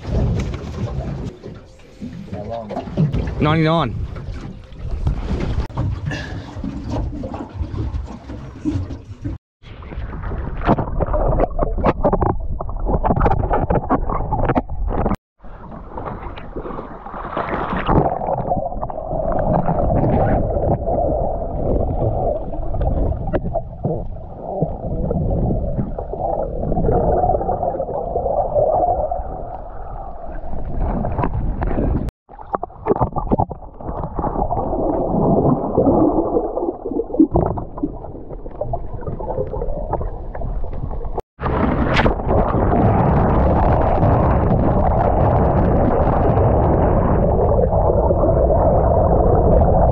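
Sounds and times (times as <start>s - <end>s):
muffled underwater water rushing: 0.0s - 49.9s.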